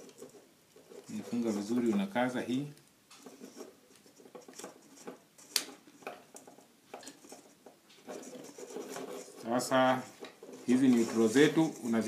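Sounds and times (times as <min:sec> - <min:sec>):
faint clicks and scratches: 0:00.0 - 0:12.0.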